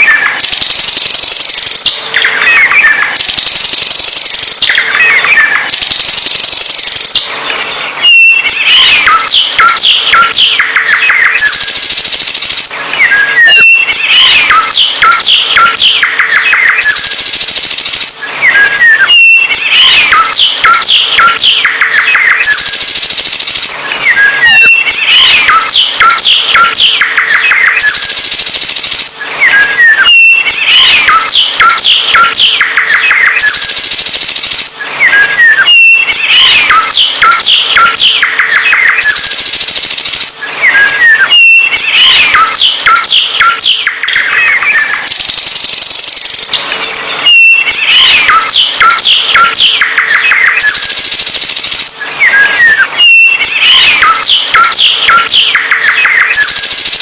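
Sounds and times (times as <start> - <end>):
songbird singing: 0.0 - 51.1, 51.7 - 56.6.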